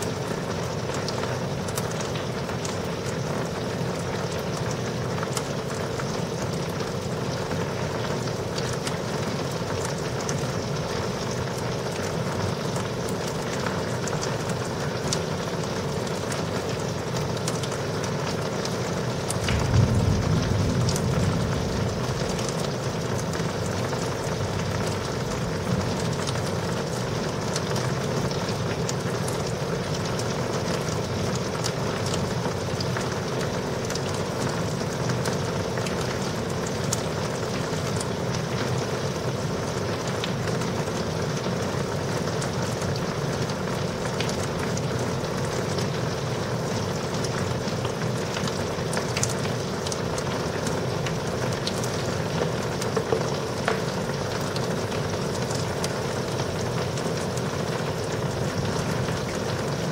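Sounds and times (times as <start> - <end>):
heavy rain falling: 0.0 - 59.9
raindrops ticking on surface: 0.0 - 59.9.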